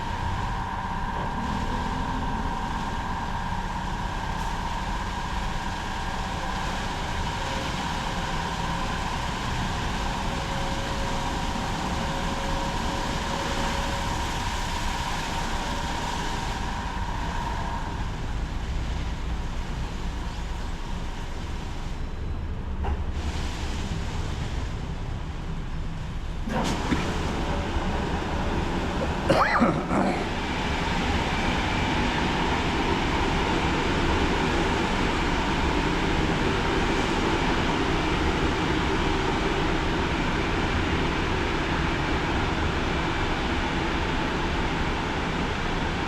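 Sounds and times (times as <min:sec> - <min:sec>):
machinery whine: 0:00.0 - 0:22.7, 0:25.0 - 0:46.0
car wash machinery rumbling: 0:00.0 - 0:46.0.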